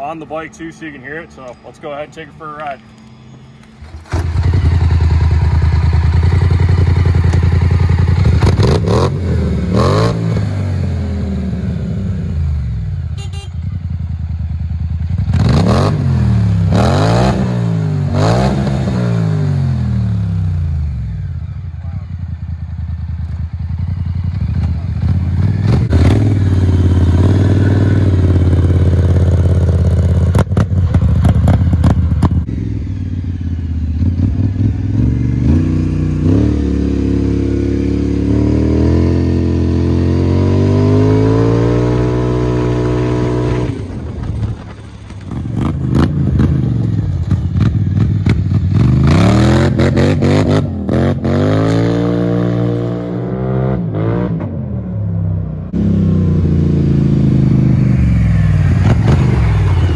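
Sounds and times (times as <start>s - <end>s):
atv engine accelerating hard: 3.8s - 13.0s, 15.1s - 21.2s, 23.2s - 44.4s, 45.3s - 59.9s.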